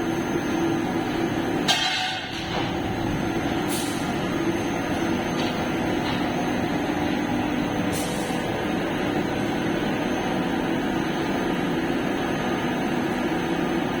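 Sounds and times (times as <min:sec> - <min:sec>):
air compressor droning: 0:00.0 - 0:14.0.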